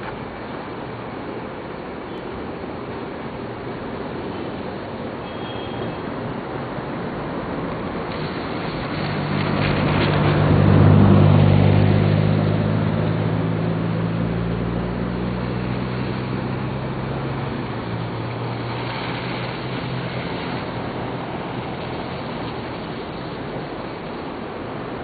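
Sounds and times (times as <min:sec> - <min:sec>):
river rushing: 0:00.0 - 0:25.0
vehicle engine hum: 0:00.0 - 0:25.0.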